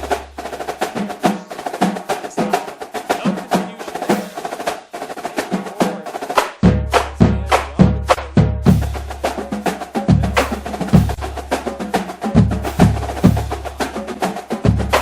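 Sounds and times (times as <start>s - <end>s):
fast drum beat: 0.0s - 15.0s.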